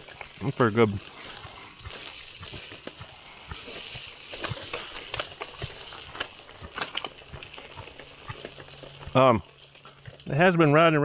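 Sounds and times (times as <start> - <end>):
aluminium foil crinkling: 0.0 - 10.3.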